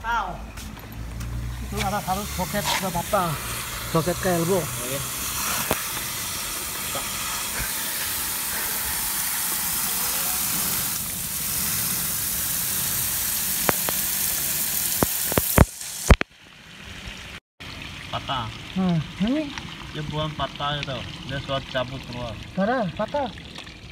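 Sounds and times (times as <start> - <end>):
water jetting from burst pipe: 1.2 - 16.3, 17.6 - 23.9.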